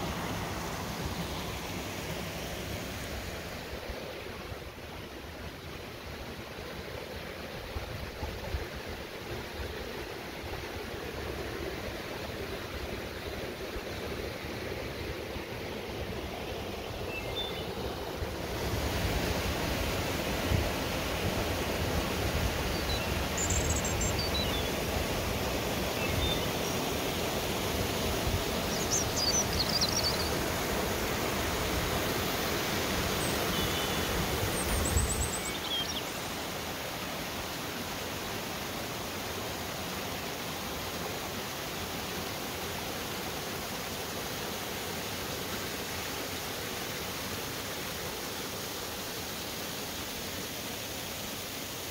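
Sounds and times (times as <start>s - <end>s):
water rushing over waterfalls: 0.0s - 51.9s.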